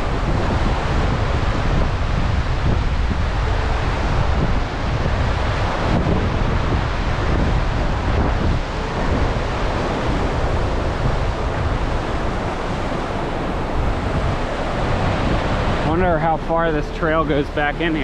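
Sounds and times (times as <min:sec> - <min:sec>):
waterfall roaring: 0:00.0 - 0:18.0
wind buffeting the microphone: 0:00.0 - 0:18.0.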